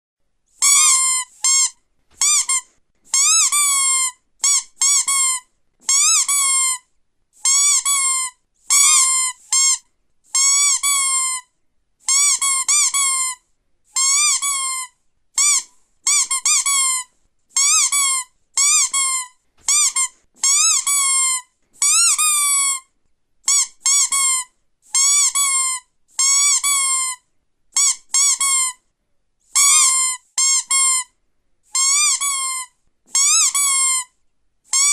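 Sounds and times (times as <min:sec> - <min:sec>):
squeaky toy squeaks: 0:00.6 - 0:28.8, 0:29.5 - 0:34.9.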